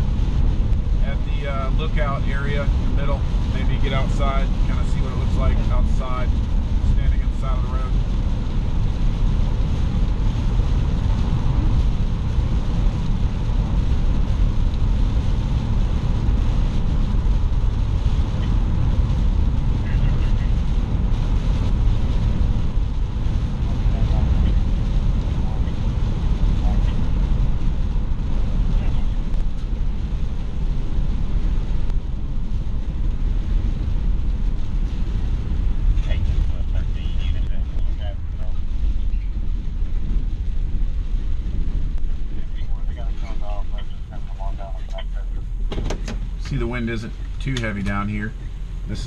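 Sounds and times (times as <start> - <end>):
rain and spray hiss: 0.0 - 49.0
road and wind noise: 0.0 - 49.0.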